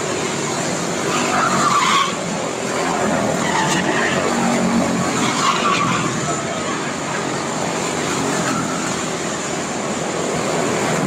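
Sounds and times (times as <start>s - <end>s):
race car engines whining: 0.0s - 11.0s.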